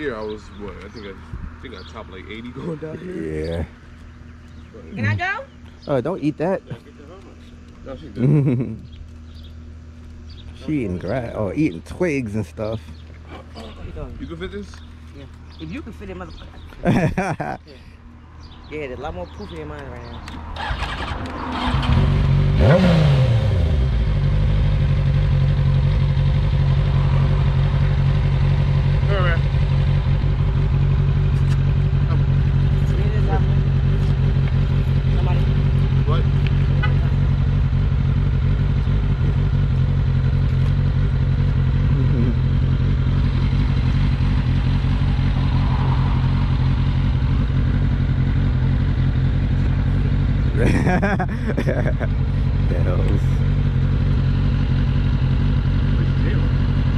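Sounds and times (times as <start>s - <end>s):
motorcycle engine revving: 0.0s - 17.6s, 18.4s - 56.9s
motorcycle engine idling: 0.0s - 56.9s.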